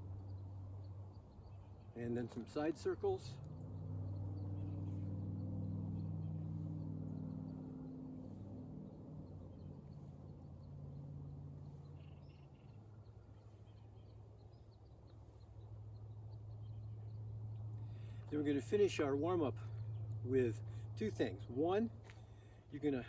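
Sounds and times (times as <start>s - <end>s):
faint bird chirps: 0.0s - 20.9s
low steady hum: 0.0s - 23.0s.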